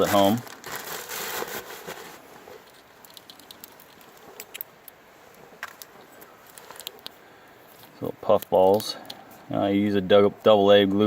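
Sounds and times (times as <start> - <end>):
rustle of fishing tackle: 0.0 - 9.6.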